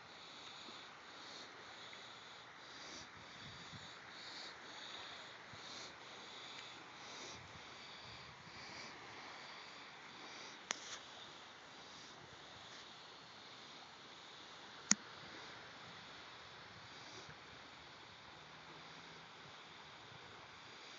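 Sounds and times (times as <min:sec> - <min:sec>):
faint outdoor hiss: 0:00.0 - 0:20.9.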